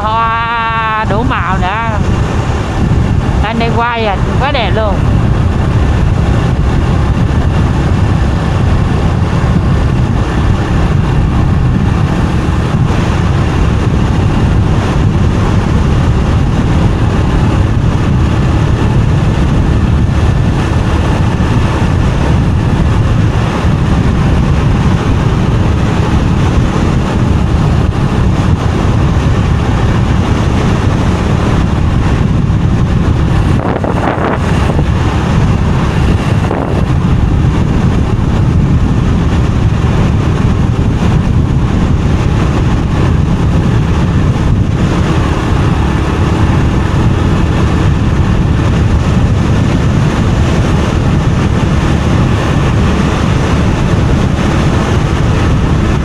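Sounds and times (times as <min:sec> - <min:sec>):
motorbike engine riding: 0:00.0 - 0:56.0
road noise: 0:00.0 - 0:56.0
wind rumble on microphone: 0:00.0 - 0:56.0.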